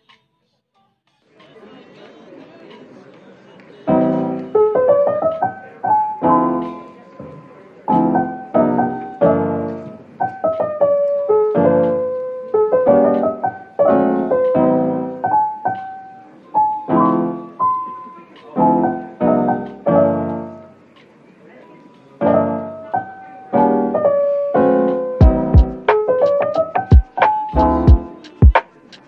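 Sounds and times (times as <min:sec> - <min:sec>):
piano chords and melody: 0:03.9 - 0:20.8, 0:22.2 - 0:28.9.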